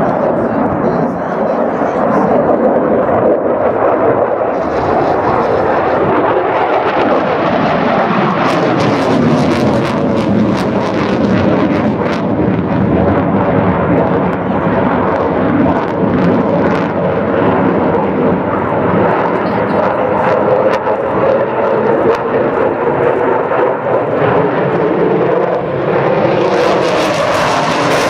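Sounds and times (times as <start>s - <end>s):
jet aircraft flying past: 0.0s - 28.0s.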